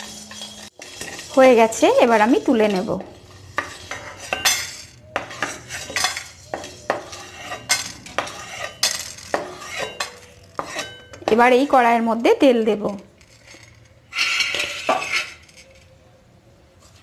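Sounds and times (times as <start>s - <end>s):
wooden spatula scraping metal pan: 0.0s - 11.8s, 13.2s - 15.7s.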